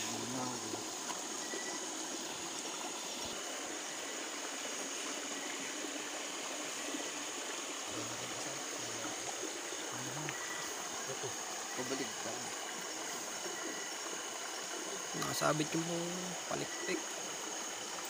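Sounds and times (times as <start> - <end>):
running water in a stream: 0.0 - 18.0.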